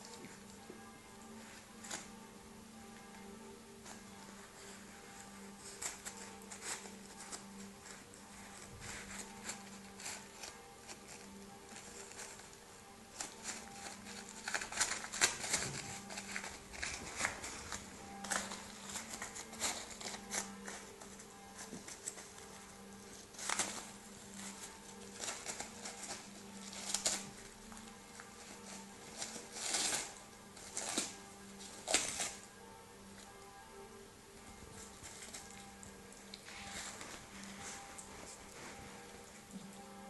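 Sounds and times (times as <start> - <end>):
faint low hum: 0.0 - 40.0
dog tearing wrapping paper: 3.9 - 32.7, 34.7 - 39.7.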